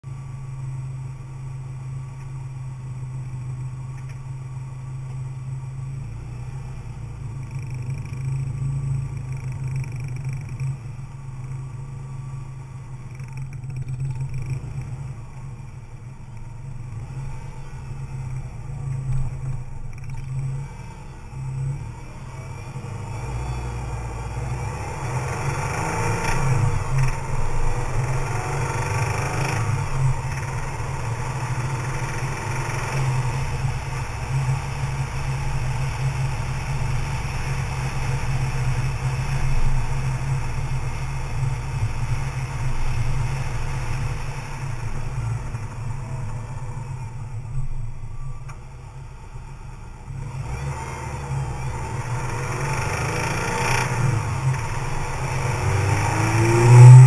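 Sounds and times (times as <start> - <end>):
car engine revving: 6.2 - 57.0.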